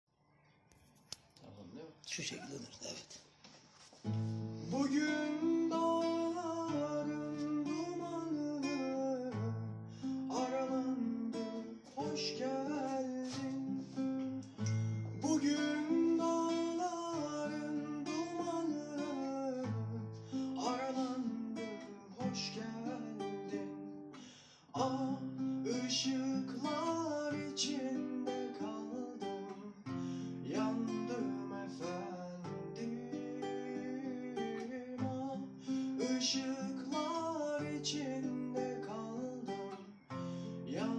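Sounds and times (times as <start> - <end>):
acoustic guitar strumming: 4.0 - 40.9
man singing: 4.6 - 40.9.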